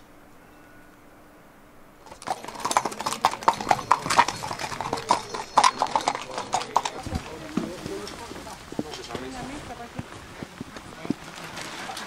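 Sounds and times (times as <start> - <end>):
hooves clopping on gravel: 2.0 - 12.0.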